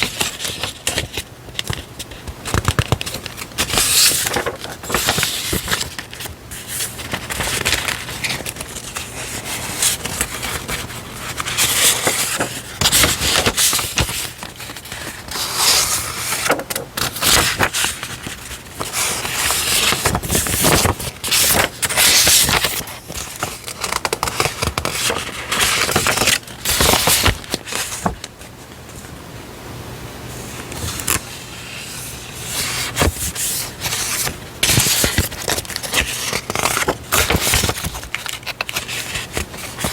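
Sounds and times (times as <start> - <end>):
paper and plastic rustling: 0.0 - 29.2, 30.4 - 39.9.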